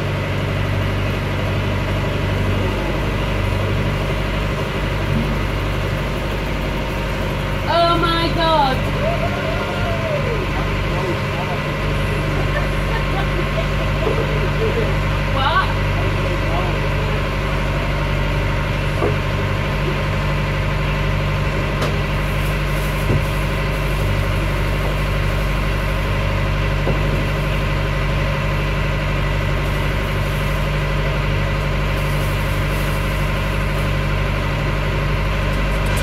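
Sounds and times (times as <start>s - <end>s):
boat diesel engine humming: 0.0s - 36.0s.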